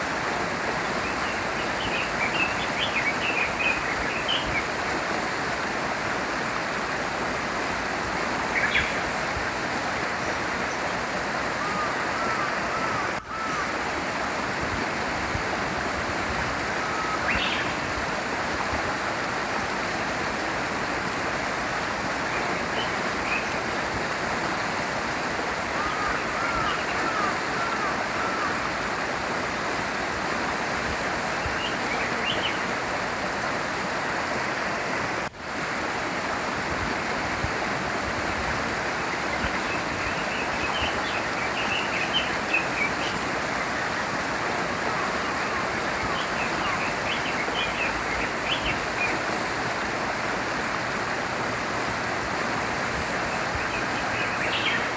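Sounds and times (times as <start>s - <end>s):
brook flowing: 0.0s - 54.9s.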